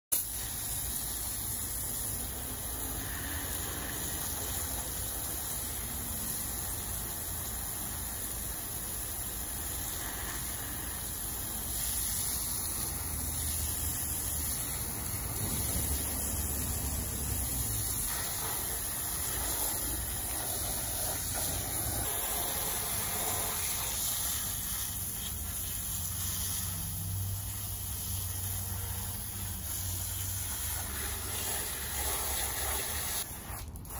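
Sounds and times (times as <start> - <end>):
hose water spraying: 0.1 - 33.9.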